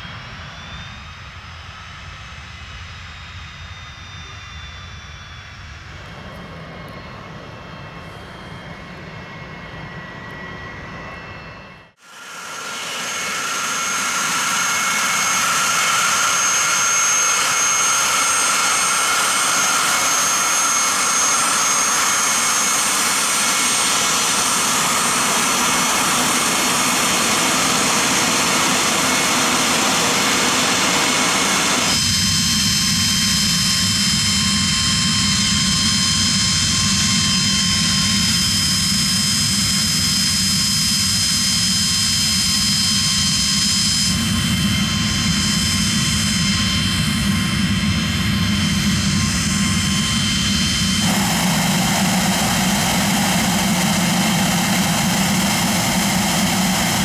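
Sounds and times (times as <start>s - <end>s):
high-pitched engine whines: 0.0s - 57.0s
jet engines roaring: 0.0s - 57.0s.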